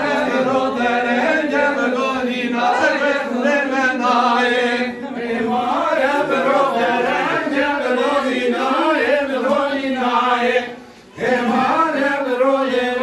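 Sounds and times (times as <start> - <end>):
men singing folk song together: 0.0 - 13.0.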